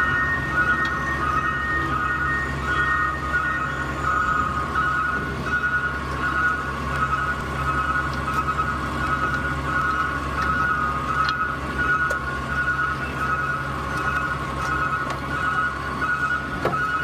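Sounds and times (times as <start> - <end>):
garbage truck engine running: 0.0 - 17.0
pulsing high electronic tone: 0.0 - 17.0.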